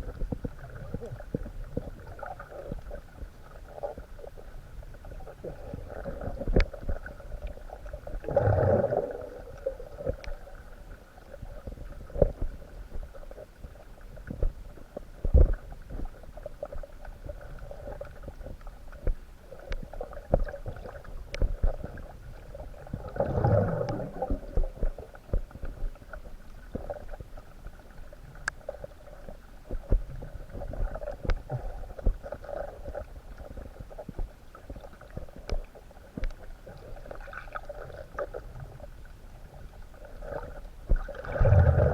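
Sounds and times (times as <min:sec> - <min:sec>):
clicks and knocks underwater: 0:00.0 - 0:41.9
gurgling water rushes: 0:00.0 - 0:41.9
underwater rumble of moving water: 0:00.0 - 0:41.9.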